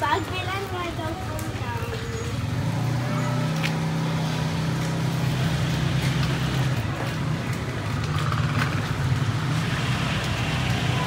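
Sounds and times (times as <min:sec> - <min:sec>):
street noise: 0:00.0 - 0:11.0
vehicle engine humming: 0:00.0 - 0:11.0.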